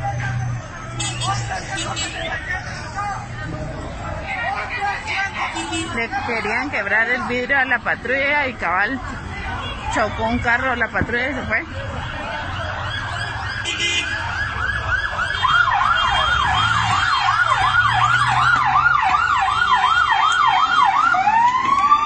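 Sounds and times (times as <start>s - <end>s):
emergency vehicle siren: 0.0s - 22.0s.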